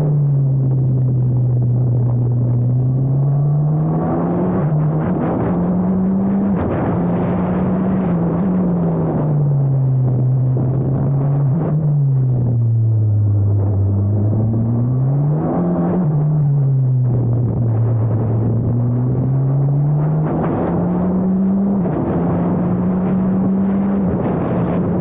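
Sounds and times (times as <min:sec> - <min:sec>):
race car engine accelerating: 0:00.0 - 0:25.0.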